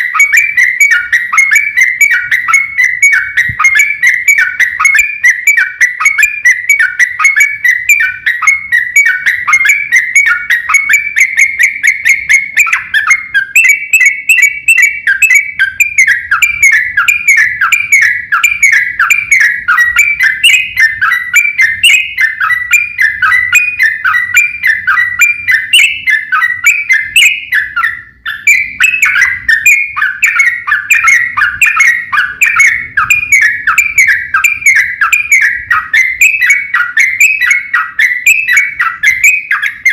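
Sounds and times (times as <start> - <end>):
bird song of whistled notes: 0.0 - 39.9.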